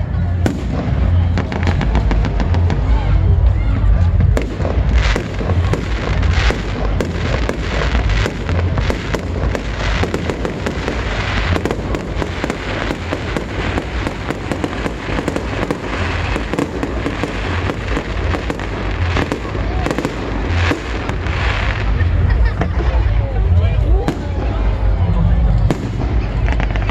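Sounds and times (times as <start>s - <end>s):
fireworks bangs and crackling: 0.0s - 26.9s
low rumble: 0.0s - 26.9s.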